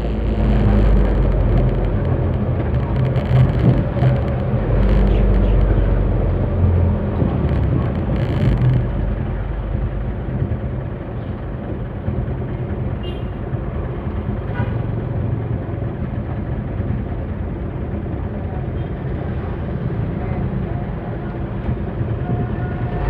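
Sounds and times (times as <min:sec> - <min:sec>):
road rumble: 0:00.0 - 0:23.0
truck engine running: 0:00.0 - 0:23.0.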